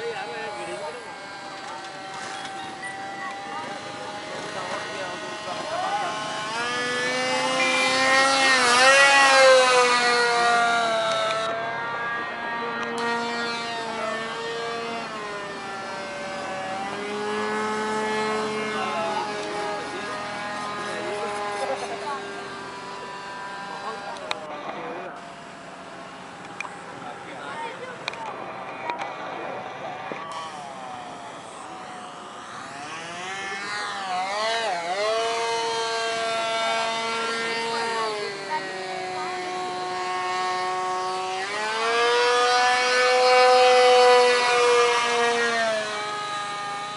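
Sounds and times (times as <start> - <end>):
model airplane motor whining: 0.0 - 46.9.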